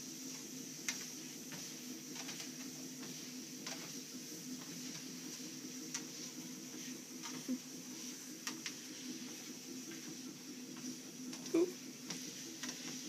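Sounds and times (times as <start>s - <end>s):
footfalls on treadmill belt: 0.0s - 13.0s
treadmill motor and belt hum: 0.0s - 13.0s.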